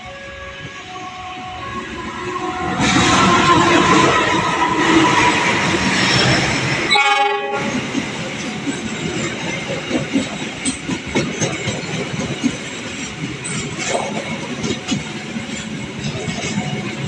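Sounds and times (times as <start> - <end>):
train rumbling rattle: 0.6 - 17.0
wheels clanking over rails: 2.6 - 17.0.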